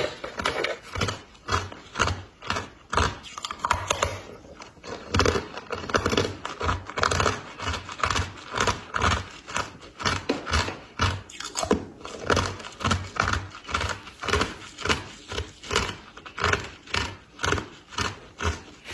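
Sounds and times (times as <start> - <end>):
chewing frost crunches: 0.0 - 18.9.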